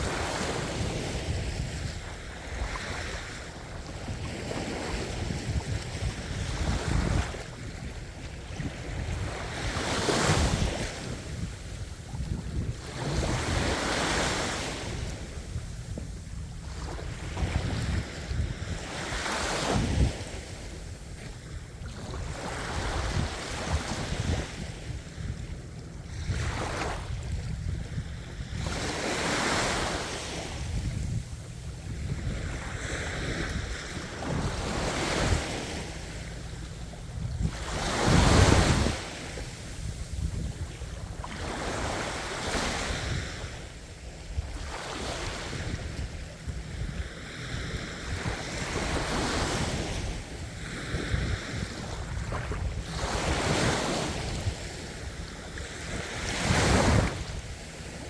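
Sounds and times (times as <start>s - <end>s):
ocean waves breaking: 0.0s - 58.0s
wind on microphone: 0.0s - 58.0s.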